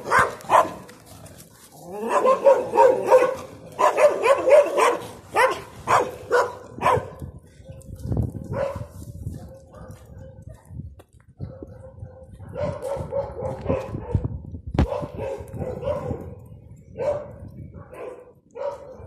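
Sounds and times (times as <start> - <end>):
dogs barking: 0.0 - 0.9, 1.8 - 10.6, 11.4 - 16.4, 17.0 - 19.0.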